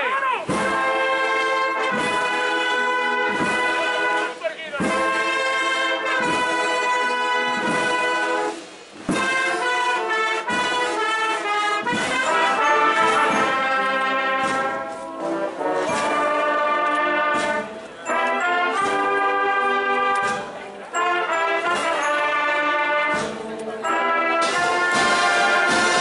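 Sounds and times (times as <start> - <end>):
brass band playing slow march: 0.4 - 26.0.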